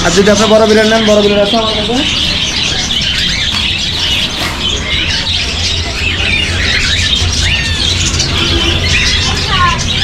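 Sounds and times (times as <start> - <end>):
caged birds chirping and squawking: 0.0 - 10.0.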